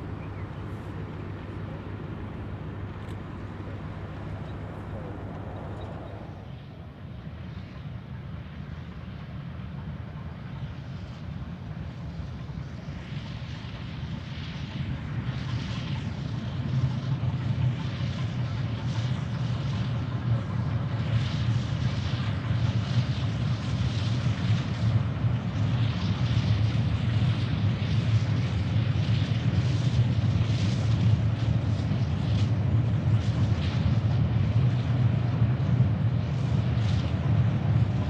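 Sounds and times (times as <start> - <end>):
steam locomotive exhaust chuffs: 0.0 - 38.0
steam locomotive rumble: 0.0 - 38.0.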